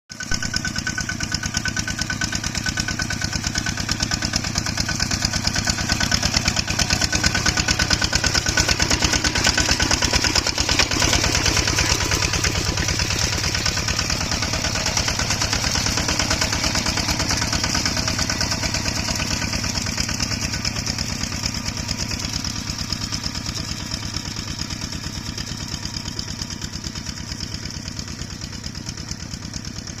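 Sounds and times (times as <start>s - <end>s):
small engine running: 0.1s - 30.0s.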